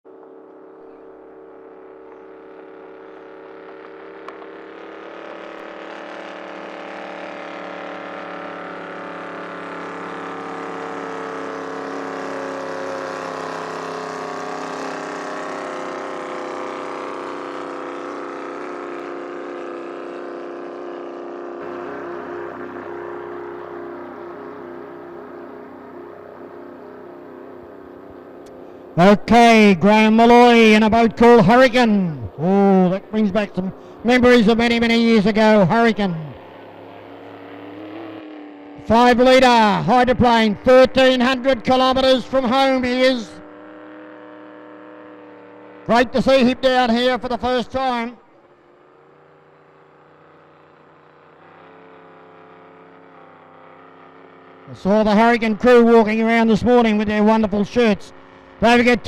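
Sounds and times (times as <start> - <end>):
racing boat engine running hard: 0.0 - 59.0.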